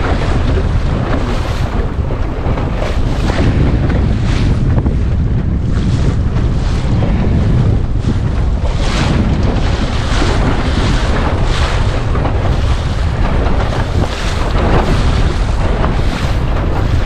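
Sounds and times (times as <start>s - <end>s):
waves splashing against hull: 0.0s - 17.0s
wind buffeting microphone: 0.0s - 17.0s.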